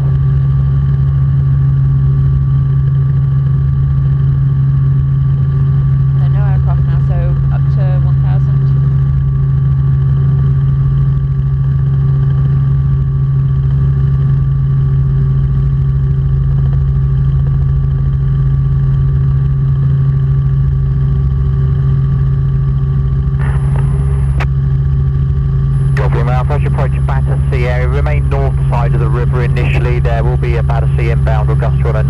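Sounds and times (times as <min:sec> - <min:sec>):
helicopter rotor and engine drone: 0:00.0 - 0:32.0.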